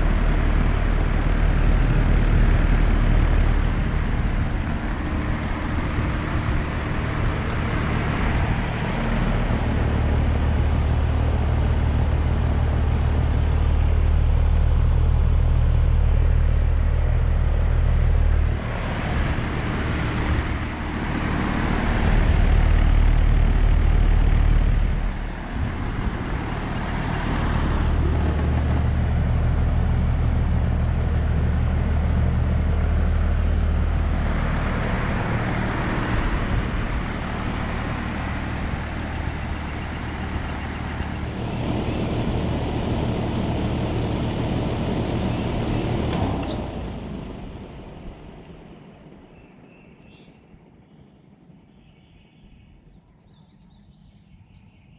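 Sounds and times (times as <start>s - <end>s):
fan whooshing: 0.0s - 48.8s
compressor low hum: 0.0s - 49.6s.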